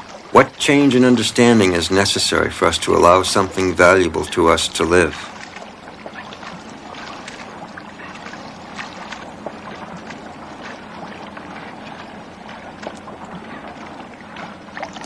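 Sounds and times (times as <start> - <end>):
water splashing against a kayak: 0.0 - 15.0.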